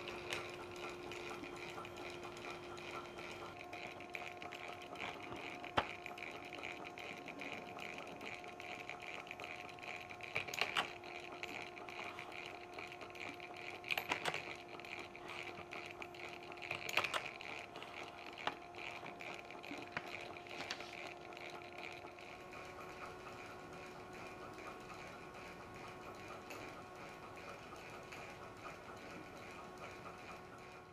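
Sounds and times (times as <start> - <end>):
electric motor hum: 0.0 - 30.9.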